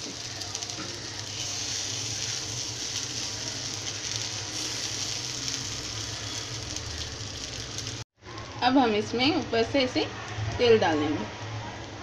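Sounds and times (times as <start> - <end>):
batter sizzling on hot griddle: 0.0 - 12.0.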